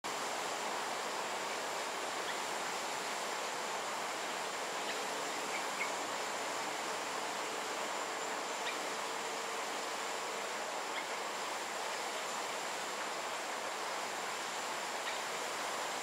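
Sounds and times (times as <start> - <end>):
forest ambient hiss: 0.0 - 16.0.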